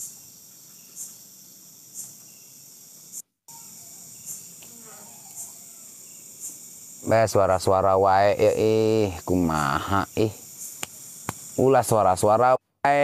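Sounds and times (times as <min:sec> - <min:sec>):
cricket chirp: 0:00.0 - 0:13.0
crickets trilling: 0:00.0 - 0:13.0.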